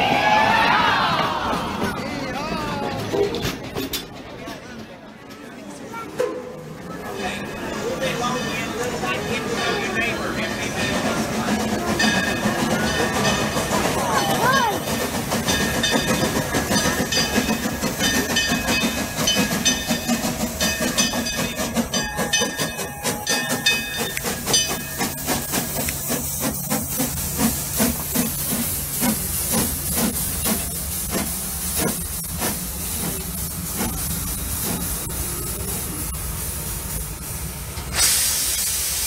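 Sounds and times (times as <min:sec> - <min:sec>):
steam locomotive chuffing: 0:05.9 - 0:39.0
steam hissing: 0:07.1 - 0:39.0.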